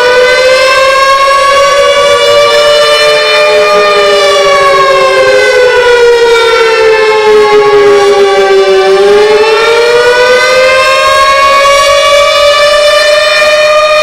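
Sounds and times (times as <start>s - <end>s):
tornado warning sirens wailing: 0.0s - 14.0s.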